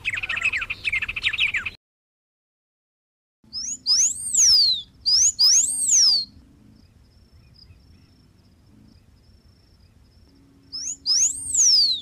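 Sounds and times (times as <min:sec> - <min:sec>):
finch singing: 0:00.0 - 0:01.8, 0:03.5 - 0:12.0.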